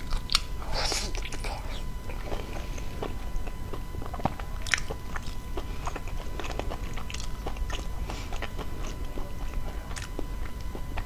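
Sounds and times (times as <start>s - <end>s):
lip smacks and mouth clicks: 0.0s - 2.4s, 3.0s - 11.0s
wet chewing: 0.0s - 11.0s.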